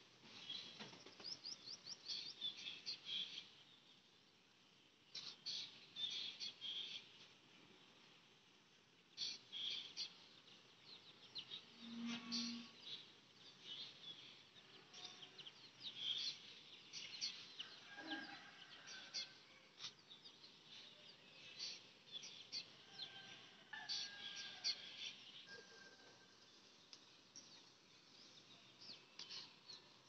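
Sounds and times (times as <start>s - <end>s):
birds chirping faintly: 0.0s - 30.0s.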